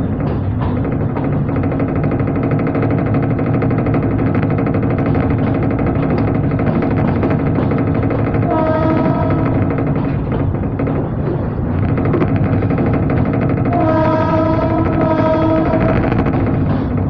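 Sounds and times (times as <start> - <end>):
diesel train engine droning: 0.0 - 17.0
train rumbling: 0.0 - 17.0.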